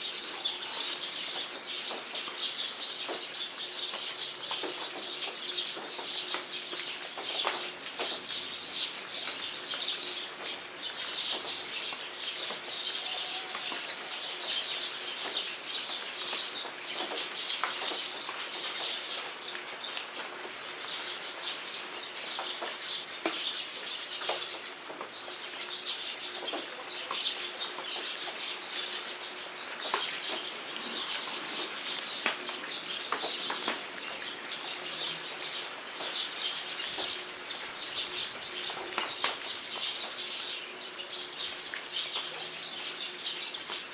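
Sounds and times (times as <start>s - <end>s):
birds chirping: 0.0s - 43.9s
raindrops striking close by: 0.0s - 43.9s
steady rain: 0.0s - 43.9s.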